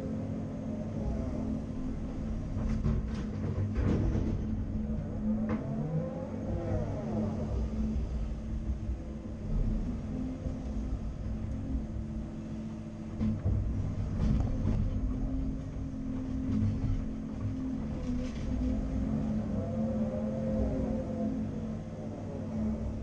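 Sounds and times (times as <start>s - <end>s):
engine whine: 0.0s - 23.0s
excavator diesel engine running: 0.0s - 23.0s.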